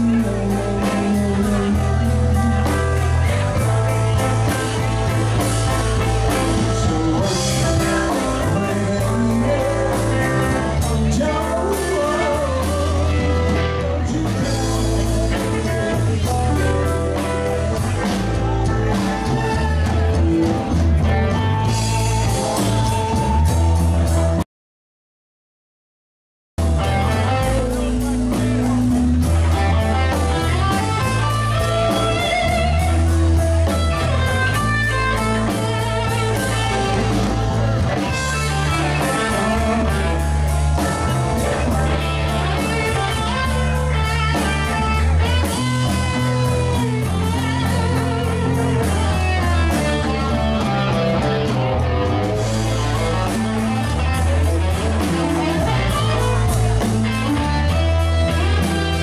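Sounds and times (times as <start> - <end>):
bass guitar: 0.0 - 24.4, 26.6 - 59.0
drum kit: 0.0 - 24.4, 26.6 - 59.0
electric guitar: 0.0 - 24.4, 26.6 - 59.0.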